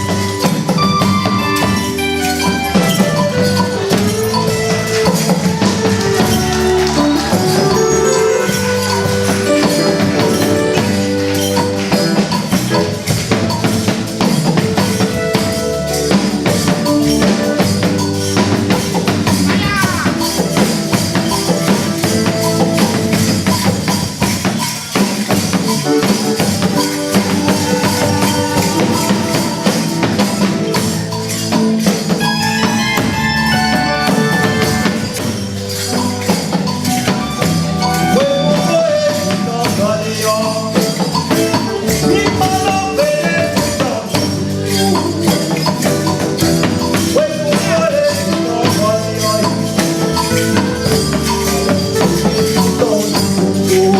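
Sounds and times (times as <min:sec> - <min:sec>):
fast percussion beat: 0:00.0 - 0:53.9
held pitched instrument lines: 0:00.0 - 0:53.9
shaker rattle: 0:00.0 - 0:53.9.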